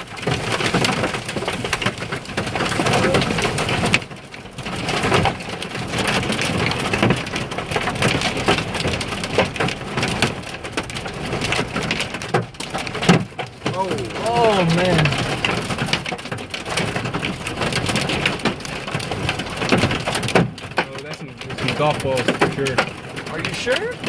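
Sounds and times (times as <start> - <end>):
hail and rain pelting a vehicle: 0.0 - 24.0.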